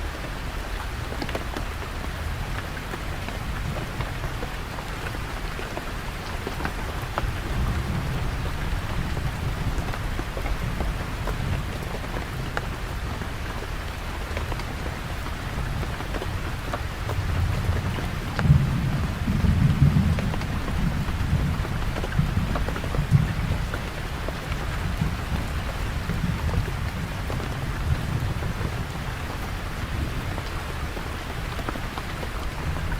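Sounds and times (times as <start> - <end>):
rain falling: 0.0 - 32.9
raindrops ticking: 0.0 - 32.9.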